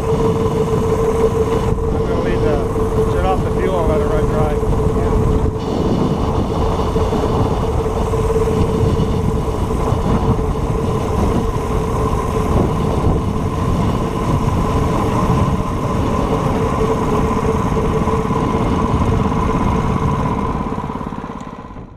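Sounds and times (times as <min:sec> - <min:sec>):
constant whine: 0:00.0 - 0:21.9
vehicle engine running: 0:00.0 - 0:21.9.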